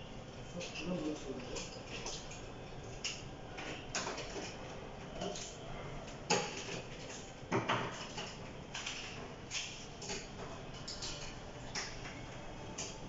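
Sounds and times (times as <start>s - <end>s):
low room noise: 0.0s - 13.0s.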